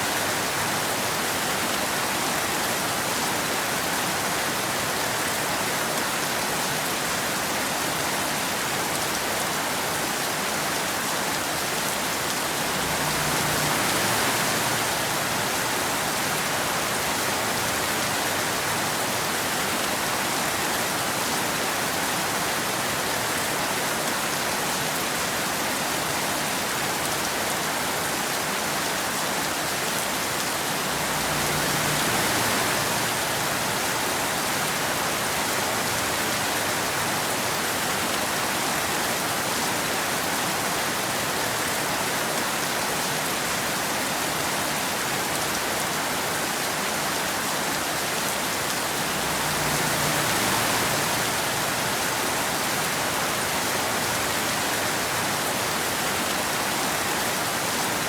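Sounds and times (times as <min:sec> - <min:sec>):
rain falling on road: 0:00.0 - 0:58.0.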